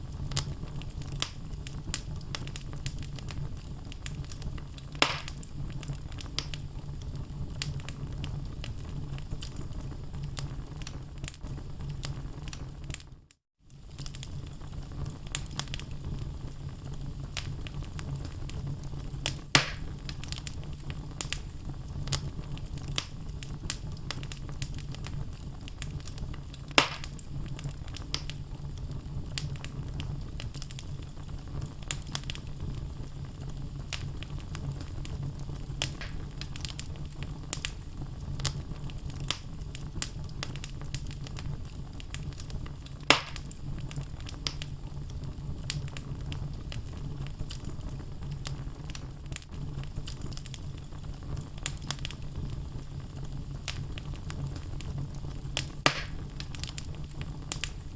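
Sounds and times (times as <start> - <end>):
logs crackling in a fire: 0.0 - 57.9
loud fire pops: 0.0 - 57.9
low fire rumble: 0.0 - 57.9.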